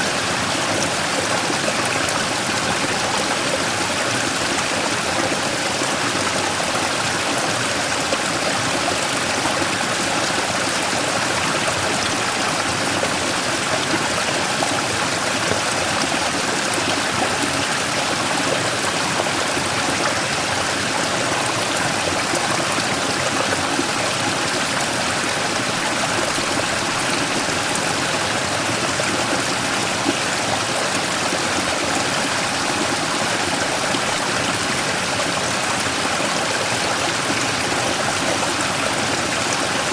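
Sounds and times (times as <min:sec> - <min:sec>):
stream splashing over rock: 0:00.0 - 0:39.9.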